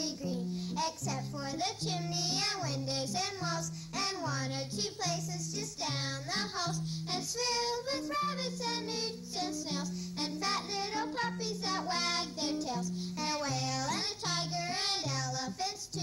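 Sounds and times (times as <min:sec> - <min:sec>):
children singing theme song: 0:00.0 - 0:16.0.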